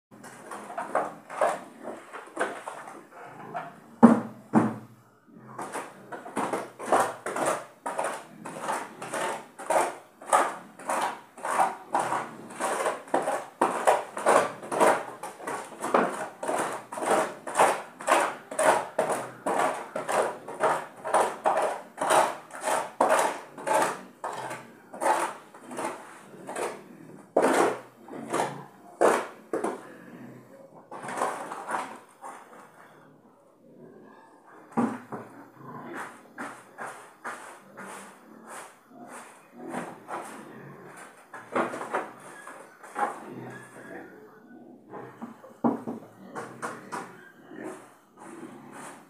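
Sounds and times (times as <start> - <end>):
pig grunting: 0.2 - 49.0.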